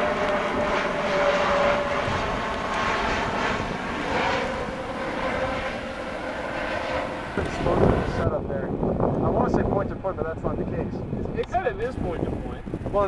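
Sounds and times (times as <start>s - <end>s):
jet airliner roar overhead: 0.0s - 13.0s.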